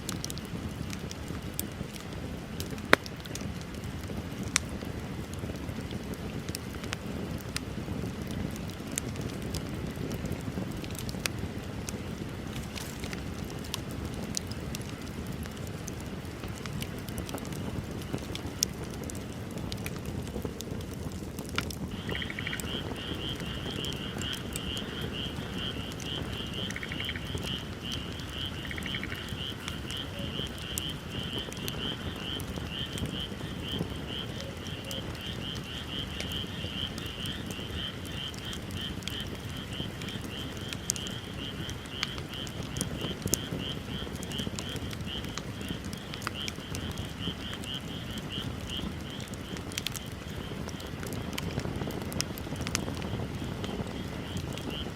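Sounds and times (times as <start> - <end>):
bonfire crackling: 0.0 - 54.9.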